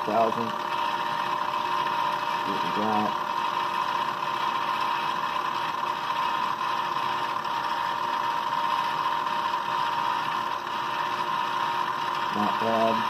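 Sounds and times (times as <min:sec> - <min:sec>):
milling machine whining: 0:00.0 - 0:13.0.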